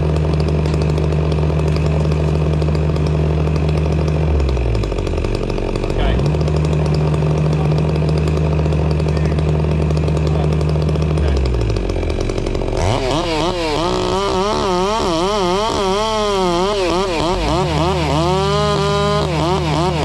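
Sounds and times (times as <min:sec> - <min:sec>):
chainsaw revving and cutting: 0:00.0 - 0:20.0
engine hum: 0:00.0 - 0:20.0.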